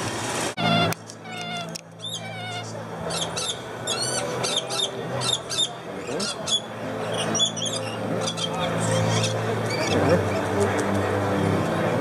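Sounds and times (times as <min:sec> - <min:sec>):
steady low hum: 0:00.0 - 0:12.0
lorikeets screeching and chattering: 0:00.6 - 0:10.8.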